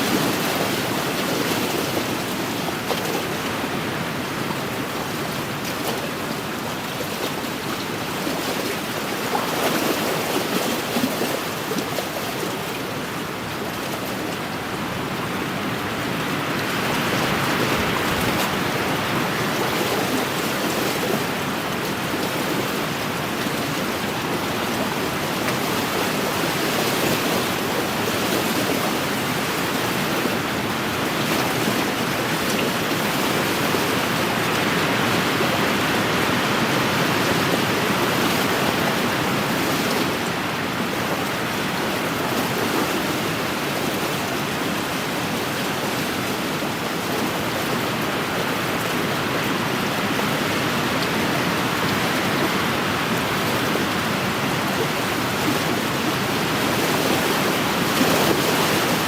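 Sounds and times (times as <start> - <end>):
lake waves washing against shore: 0.0 - 59.0.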